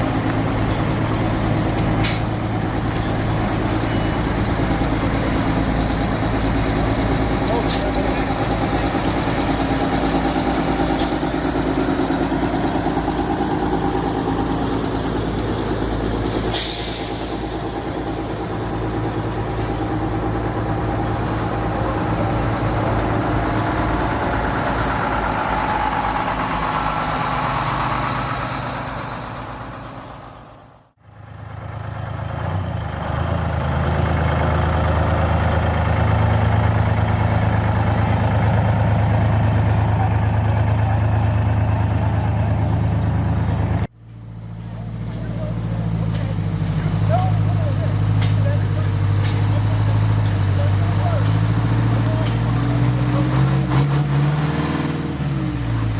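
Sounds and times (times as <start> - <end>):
deeper heavier engine: 0.0 - 55.9
truck engines running: 0.0 - 55.9.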